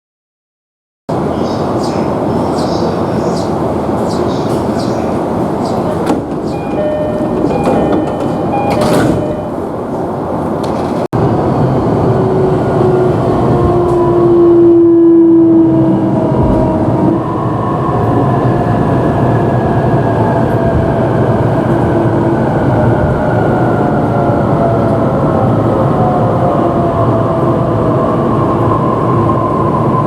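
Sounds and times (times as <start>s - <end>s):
electric train rumble: 1.1s - 30.0s.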